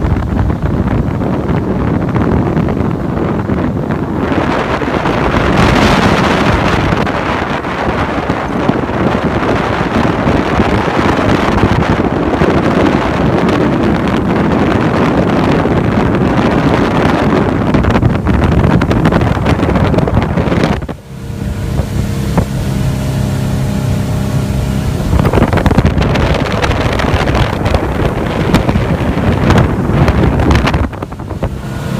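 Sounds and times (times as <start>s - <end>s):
motorboat engine drone: 0.0s - 31.9s
water noise: 0.0s - 31.9s
wind rush on microphone: 0.0s - 31.9s.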